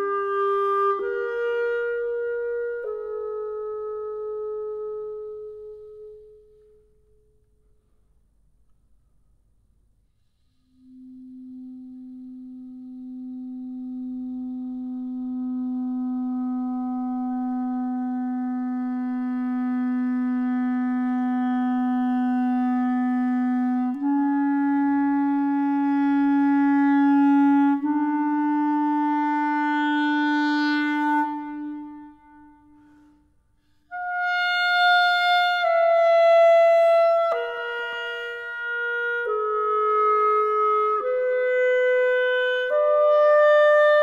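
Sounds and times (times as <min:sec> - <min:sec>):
clarinet playing slow notes: 0:00.0 - 0:07.3, 0:10.7 - 0:44.0.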